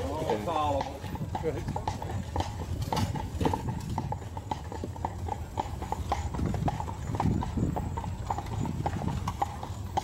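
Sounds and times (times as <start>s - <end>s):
horse hooves clip-clopping on road: 0.0s - 10.0s.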